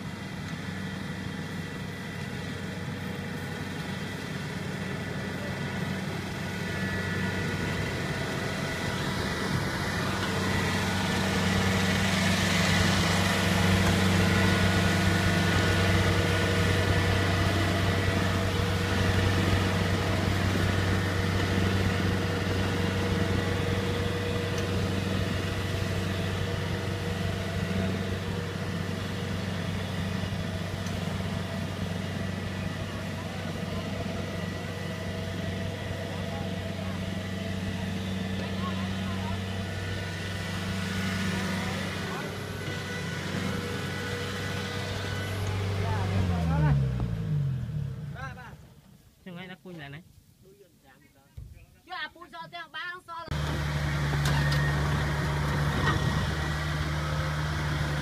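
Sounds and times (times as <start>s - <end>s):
combine harvester diesel engine: 0.0s - 49.9s, 52.4s - 58.0s.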